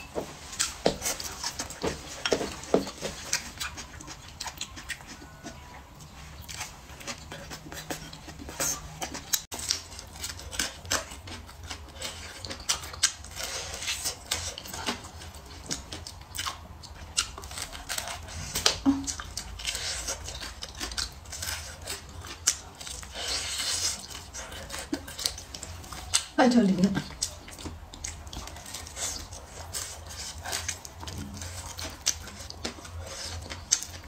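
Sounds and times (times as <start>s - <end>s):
crunchy chewing: 0.0s - 34.0s.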